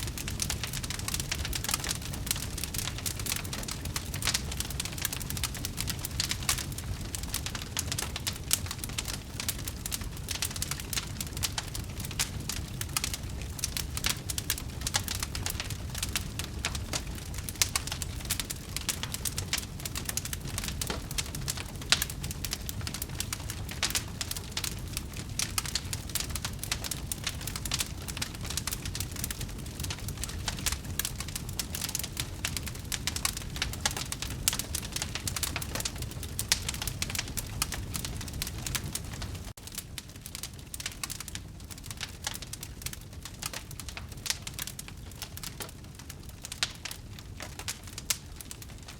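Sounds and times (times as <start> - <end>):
low rumble of burning logs: 0.0 - 48.9
wood fire crackling and popping: 0.0 - 48.9.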